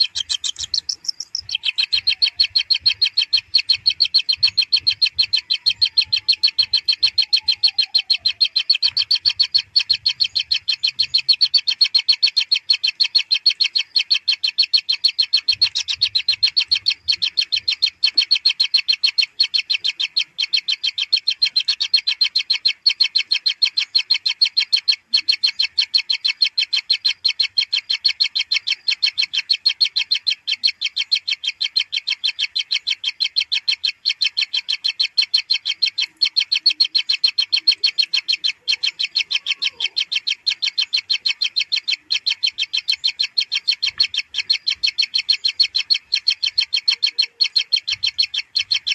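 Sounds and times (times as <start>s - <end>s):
nestlings begging calls: 0.0s - 48.9s.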